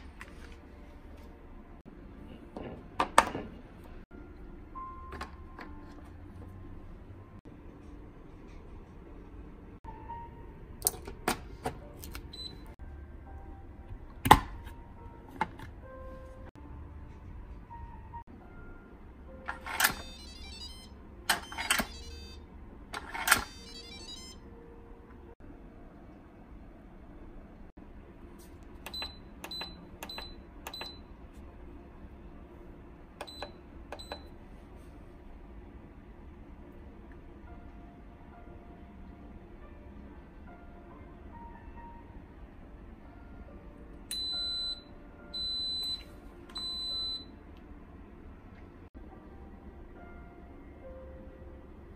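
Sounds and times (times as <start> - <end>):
quiet background music: 0.0 - 51.9.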